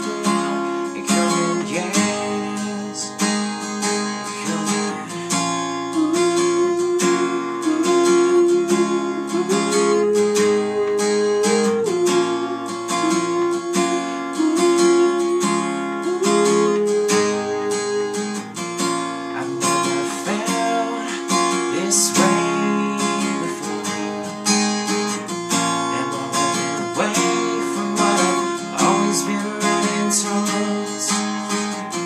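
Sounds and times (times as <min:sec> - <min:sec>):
acoustic guitar strumming: 0:00.0 - 0:32.0
held melody line: 0:00.0 - 0:32.0.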